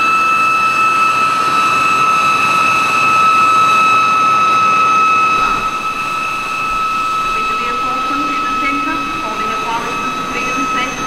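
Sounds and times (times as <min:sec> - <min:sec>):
turbine whine from speaker: 0:00.0 - 0:11.0.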